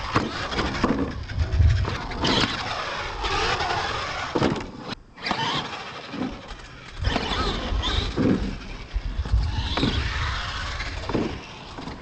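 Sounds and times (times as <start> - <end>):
toy truck motor whining: 0.3 - 12.0.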